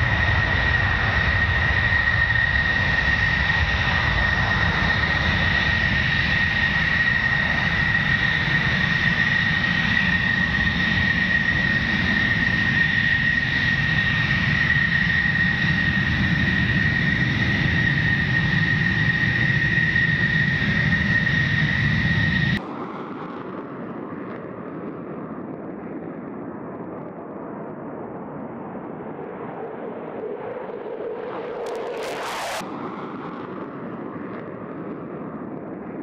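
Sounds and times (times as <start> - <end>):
jet engine roaring: 0.0 - 36.0.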